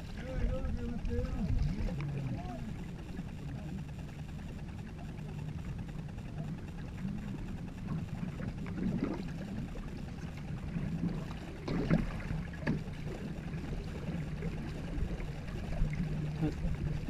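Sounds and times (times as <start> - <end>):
paddles pulling through water: 0.0 - 17.0
steady low hum: 0.0 - 17.0.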